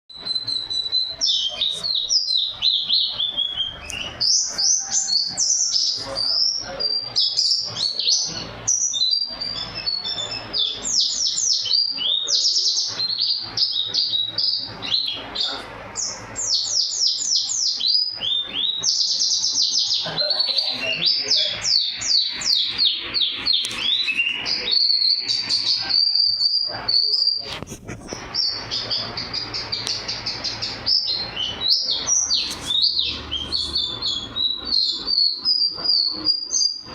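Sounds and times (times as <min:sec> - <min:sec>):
bird singing rapid trills: 0:00.1 - 0:27.5, 0:28.2 - 0:36.9.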